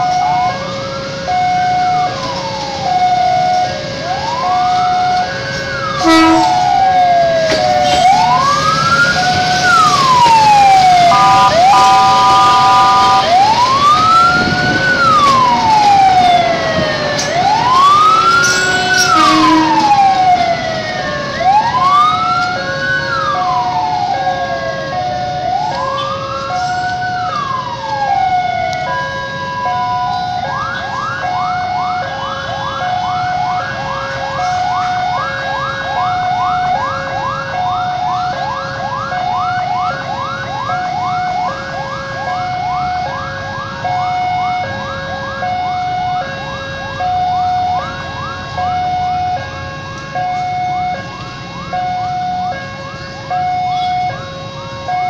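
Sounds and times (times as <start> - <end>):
electronic siren wailing and yelping: 0.0 - 55.0
level-crossing alarm: 0.0 - 55.0.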